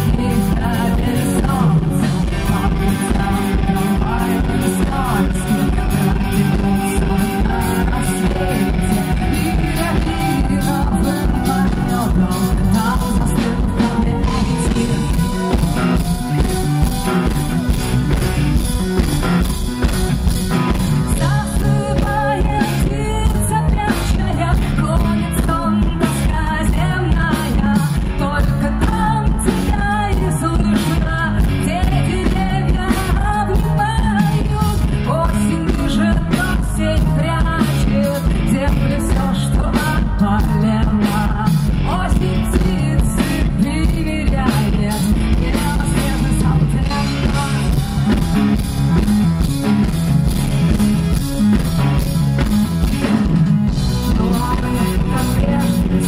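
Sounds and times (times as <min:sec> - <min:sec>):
woman singing into a microphone: 0:00.0 - 0:17.4, 0:21.0 - 0:48.8, 0:53.7 - 0:56.0
live rock band: 0:00.0 - 0:56.0.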